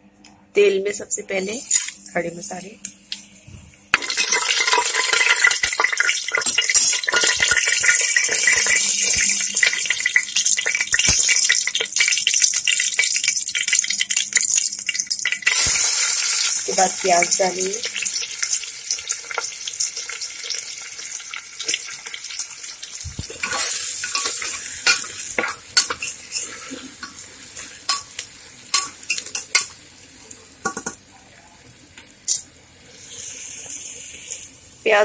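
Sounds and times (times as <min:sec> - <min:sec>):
onions sizzling in hot oil: 0:03.9 - 0:30.6, 0:31.6 - 0:35.0.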